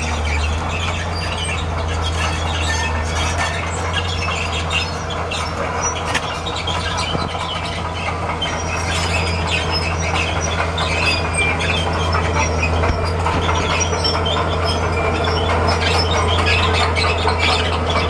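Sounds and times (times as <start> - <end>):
diesel engine drone: 0.0 - 18.0
steel tracks squealing and clanking: 0.0 - 18.0.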